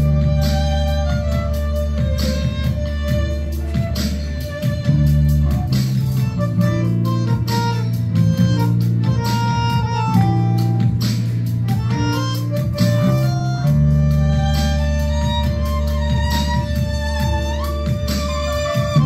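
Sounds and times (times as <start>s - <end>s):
electric bass low notes: 0.0s - 19.0s
tango band playing: 0.0s - 19.0s.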